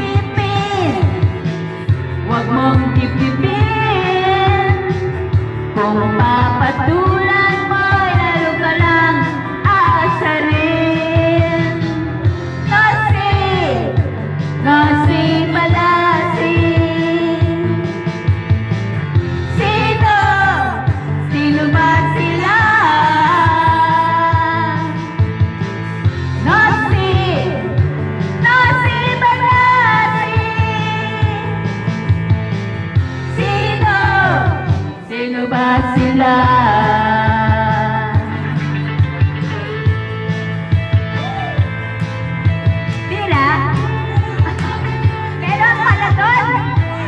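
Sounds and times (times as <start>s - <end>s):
pop song with singer: 0.0s - 47.0s.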